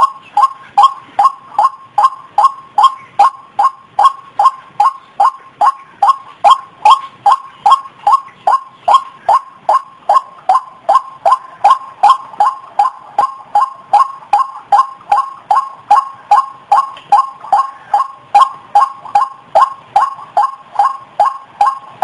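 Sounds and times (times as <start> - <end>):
waterhen call: 0.0 - 22.0.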